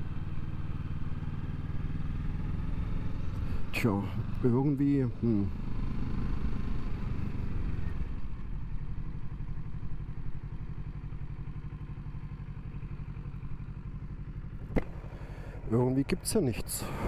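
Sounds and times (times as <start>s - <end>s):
motorcycle engine at low revs: 0.0s - 17.0s
road and wind noise: 0.0s - 17.0s.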